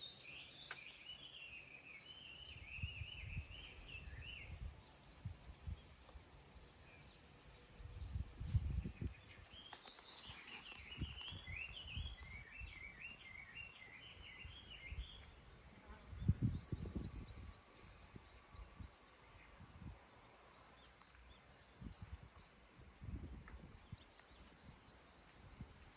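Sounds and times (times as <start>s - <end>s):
small birds twittering: 0.0s - 25.9s.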